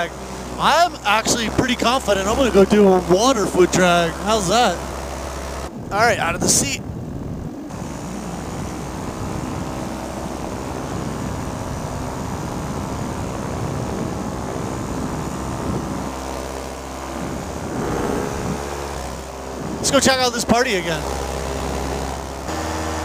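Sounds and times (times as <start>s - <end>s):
two-stroke engine propeller drone: 0.0s - 23.0s.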